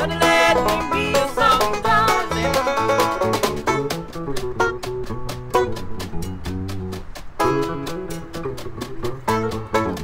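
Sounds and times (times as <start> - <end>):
banjo picking: 0.0 - 10.0
electric bass: 0.0 - 10.0.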